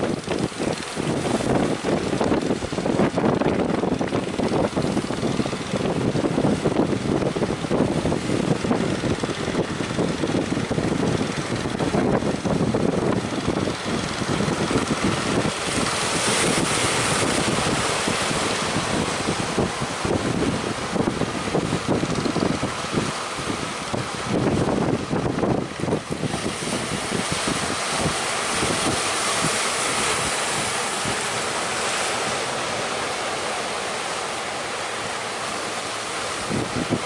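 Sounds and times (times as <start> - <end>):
sea waves breaking: 0.0 - 37.0
wind buffeting microphone: 0.0 - 37.0.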